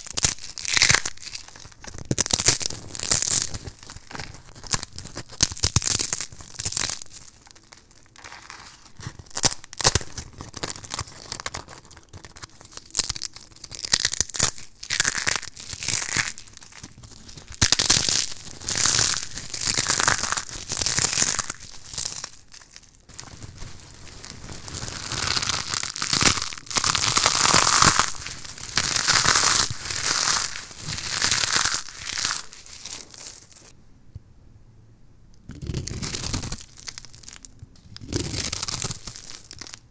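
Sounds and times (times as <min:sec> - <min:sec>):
dried soap crackling and crunching: 0:00.0 - 0:33.7, 0:35.4 - 0:39.9.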